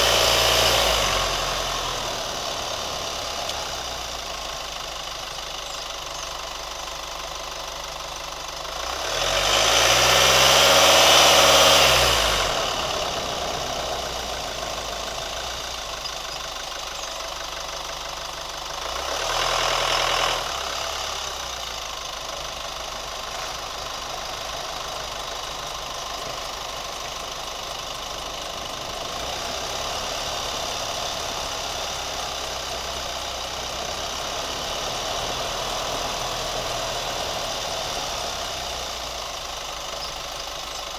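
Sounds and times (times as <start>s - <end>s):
pickup engine idling and revving: 0.0s - 40.9s.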